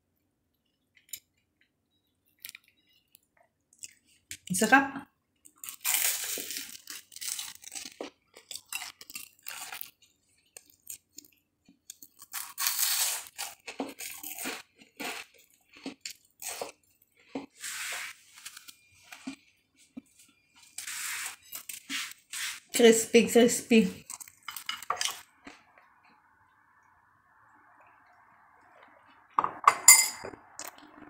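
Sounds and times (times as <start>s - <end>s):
crunching and chewing food: 0.1s - 4.4s, 5.2s - 22.3s, 24.0s - 29.4s, 30.3s - 31.0s.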